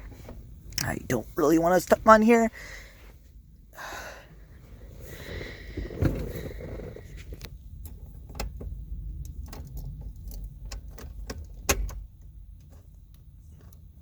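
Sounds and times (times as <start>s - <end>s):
low rumble: 0.0s - 11.3s.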